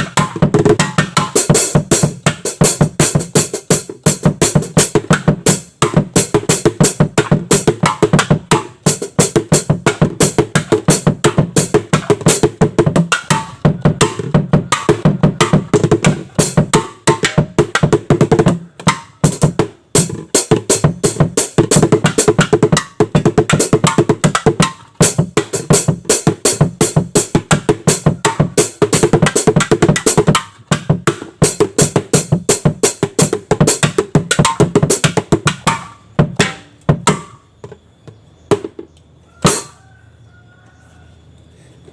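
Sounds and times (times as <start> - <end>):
drumming on cans and buckets: 0.0 - 39.8.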